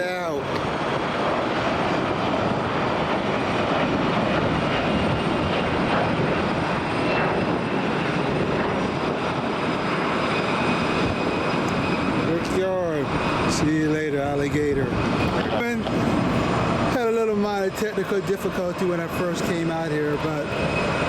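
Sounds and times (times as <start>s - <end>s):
airliner engines at takeoff: 0.0s - 21.0s.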